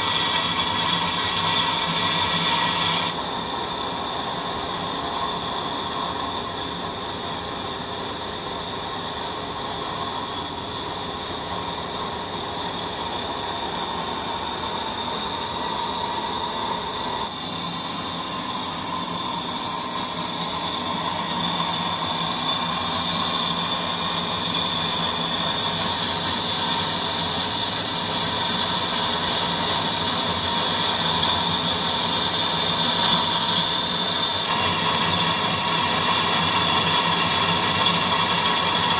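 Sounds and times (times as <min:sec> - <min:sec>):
lathe machining steel with whine: 0:00.0 - 0:38.9.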